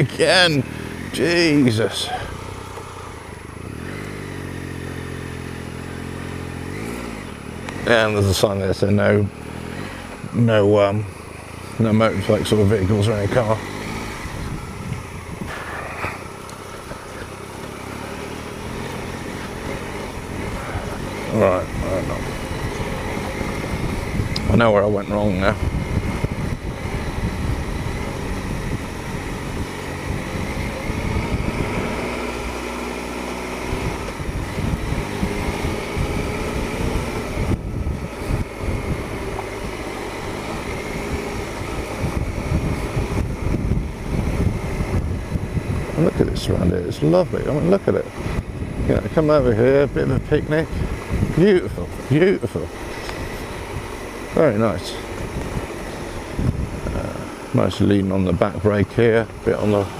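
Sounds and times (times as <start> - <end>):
motorcycle engine at low revs: 0.0 - 59.9.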